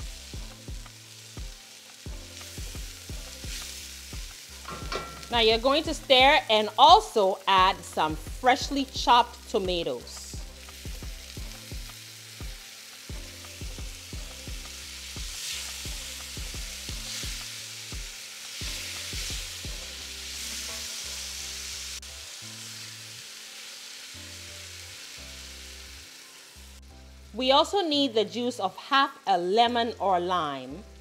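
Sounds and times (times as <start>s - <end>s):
tomatoes sizzling in oil: 0.0s - 31.0s.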